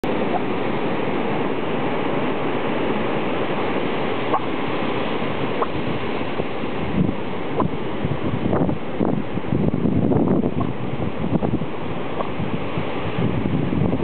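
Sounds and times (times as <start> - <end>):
rushing surf: 0.0 - 14.0.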